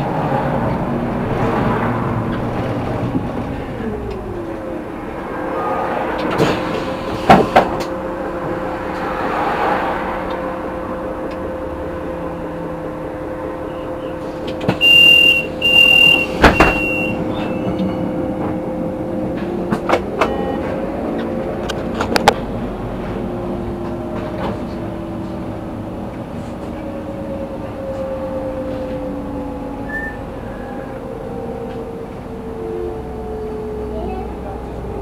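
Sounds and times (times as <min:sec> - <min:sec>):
vehicle running noise: 0:00.0 - 0:35.0.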